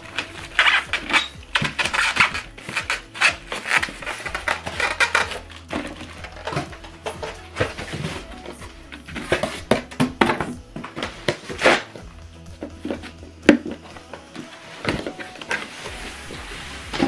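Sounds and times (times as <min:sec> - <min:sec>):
foam rubbing: 0:00.0 - 0:09.8, 0:10.8 - 0:17.0.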